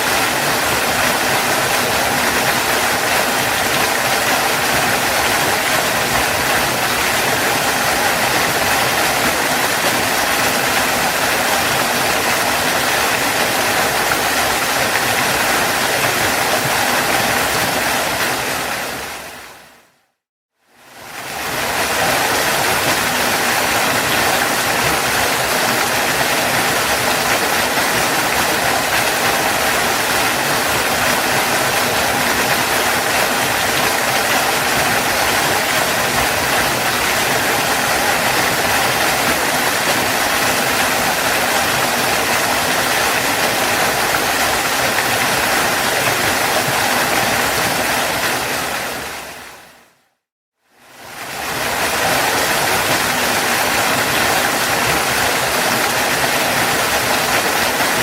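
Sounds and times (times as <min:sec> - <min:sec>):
waterfall rushing: 0:00.0 - 0:19.8, 0:20.8 - 0:49.9, 0:50.9 - 0:58.0.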